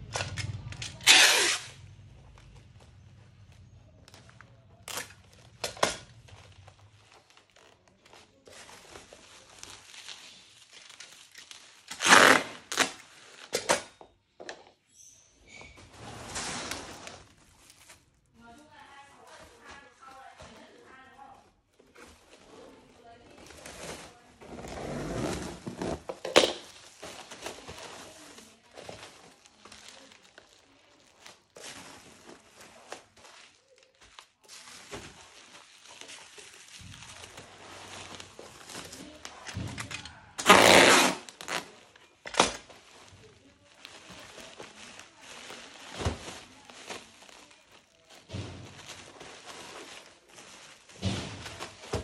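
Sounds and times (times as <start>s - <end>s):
crinkling and rustling: 0.0s - 52.0s.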